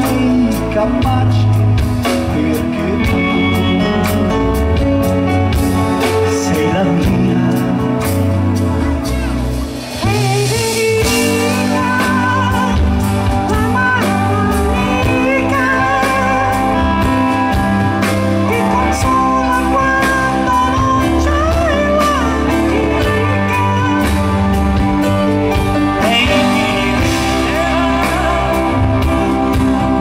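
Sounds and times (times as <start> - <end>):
drum kit beat: 0.0 - 30.0
rock band playing live: 0.0 - 30.0.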